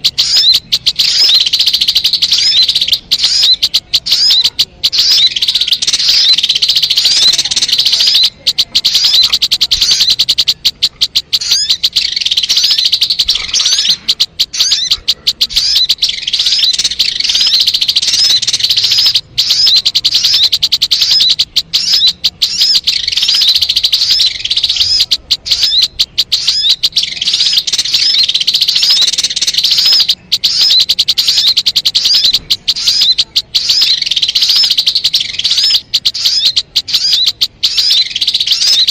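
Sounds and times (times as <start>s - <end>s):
high-pitched bird chirping: 0.0s - 38.9s.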